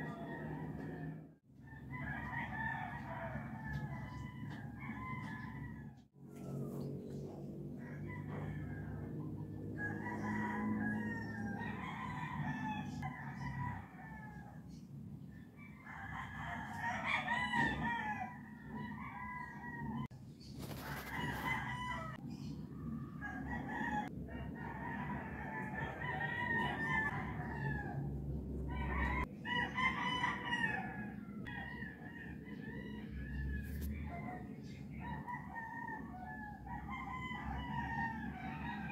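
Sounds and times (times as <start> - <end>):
rooster crowing: 0.0 - 6.0, 7.8 - 14.6, 15.6 - 20.1, 20.7 - 22.2, 23.2 - 38.9.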